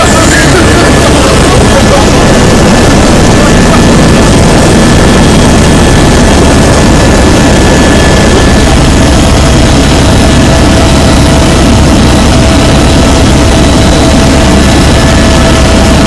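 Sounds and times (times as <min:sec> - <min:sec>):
helicopter engine and rotor noise: 0:00.0 - 0:16.0.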